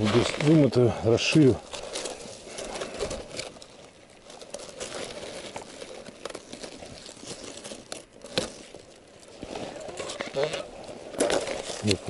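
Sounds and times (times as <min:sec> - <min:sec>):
ice and snow crunching: 0:00.0 - 0:12.0.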